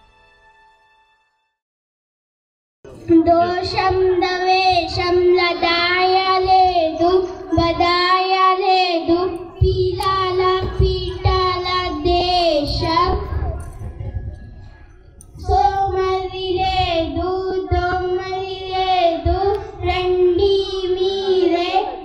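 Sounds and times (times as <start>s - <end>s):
girl singing into a microphone: 3.1s - 14.2s, 15.3s - 22.0s.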